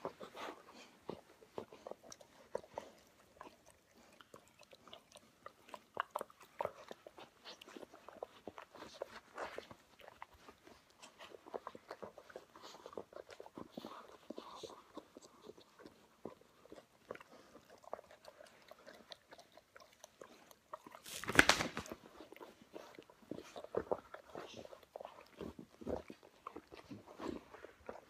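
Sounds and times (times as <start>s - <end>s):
dogs mouthing and licking: 0.0s - 28.0s.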